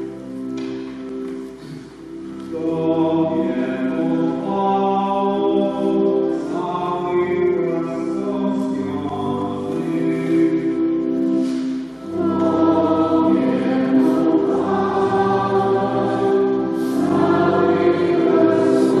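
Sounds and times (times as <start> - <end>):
steady musical accompaniment: 0.0 - 19.0
voices singing a hymn: 1.6 - 19.0.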